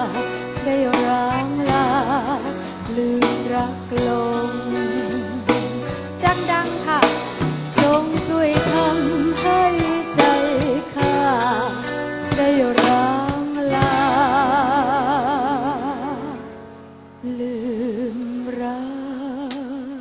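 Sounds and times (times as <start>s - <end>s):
woman singing with vibrato: 0.0s - 16.6s, 17.2s - 20.0s
bass: 0.0s - 20.0s.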